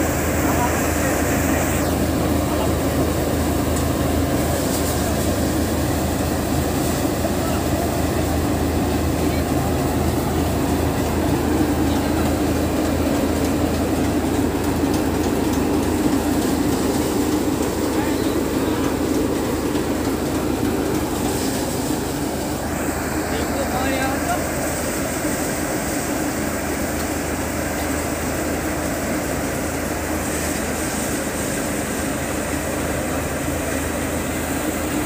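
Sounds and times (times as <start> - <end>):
threshing machine droning: 0.0 - 35.0.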